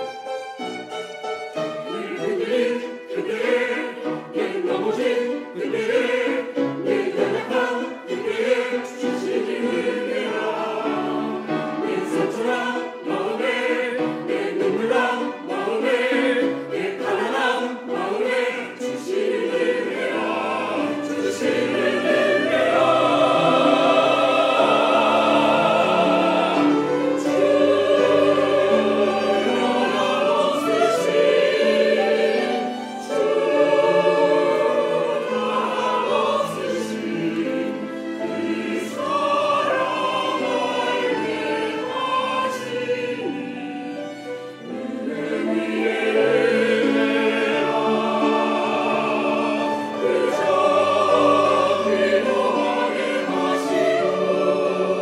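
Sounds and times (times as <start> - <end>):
church choir singing: 0.0 - 55.0
piano: 0.0 - 55.0
violins: 0.0 - 55.0.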